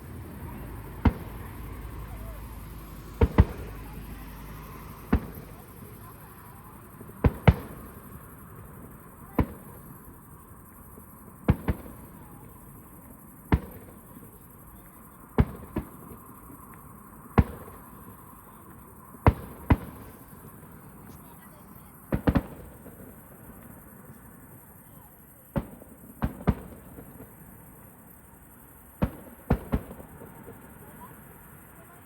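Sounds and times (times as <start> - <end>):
fireworks bursting with sharp bangs: 0.0 - 32.0.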